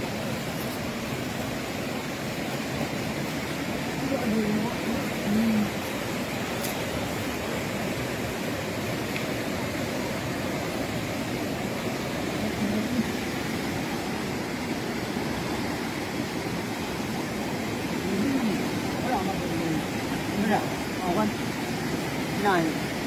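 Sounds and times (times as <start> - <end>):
river rushing over boulders: 0.0 - 23.0.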